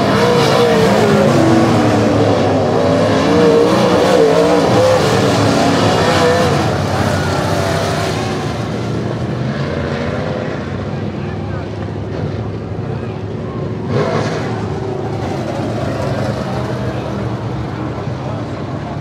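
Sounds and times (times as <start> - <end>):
race car engines running loudly: 0.0 - 19.0.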